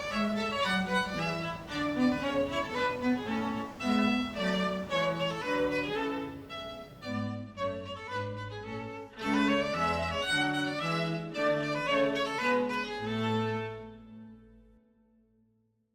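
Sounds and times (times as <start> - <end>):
violin and string music: 0.0 - 14.7.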